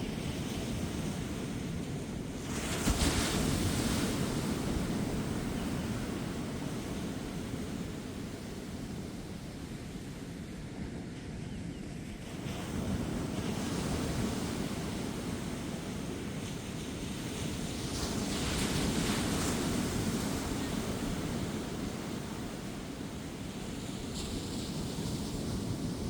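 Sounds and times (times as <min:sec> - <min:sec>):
ocean waves breaking on beach: 0:00.0 - 0:11.2, 0:12.0 - 0:26.0
gentle wind: 0:00.0 - 0:26.0.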